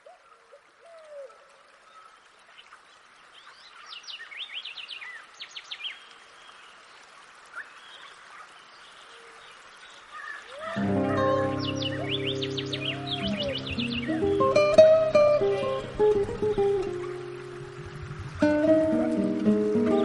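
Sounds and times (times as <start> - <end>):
faint hiss: 0.0 - 20.0
small birds chirping: 0.0 - 20.0.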